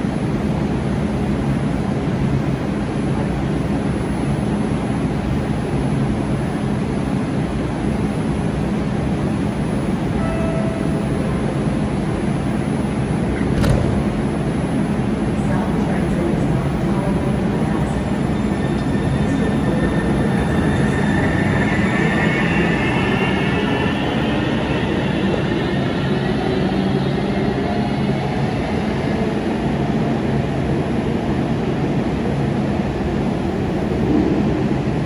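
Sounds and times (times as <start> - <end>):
train running hum: 0.0 - 35.0.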